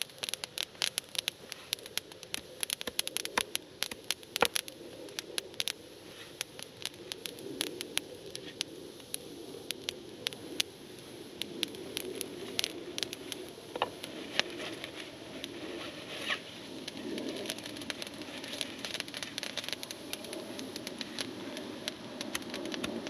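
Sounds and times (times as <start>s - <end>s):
campfire wood crackling: 0.0s - 23.0s.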